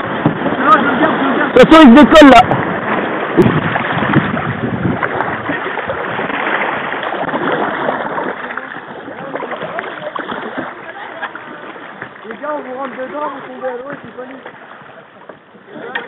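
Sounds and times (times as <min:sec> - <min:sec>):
water splashing against kayak hull: 0:00.0 - 0:16.0.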